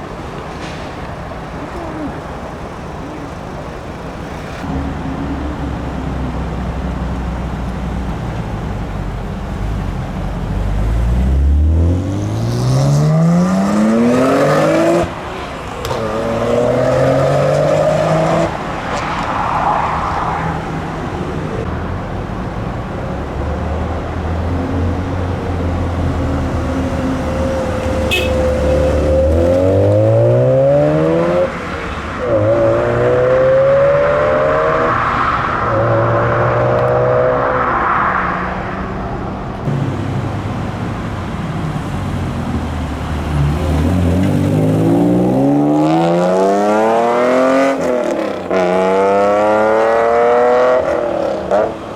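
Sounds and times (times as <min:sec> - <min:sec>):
car engines revving hard: 0:00.0 - 0:21.7, 0:22.5 - 0:51.9.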